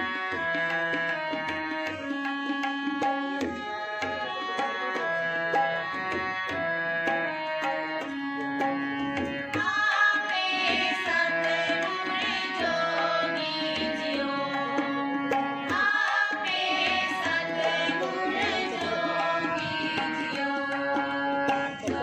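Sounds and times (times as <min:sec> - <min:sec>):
harmonium chords: 0:00.0 - 0:22.0
tabla strokes: 0:00.0 - 0:22.0.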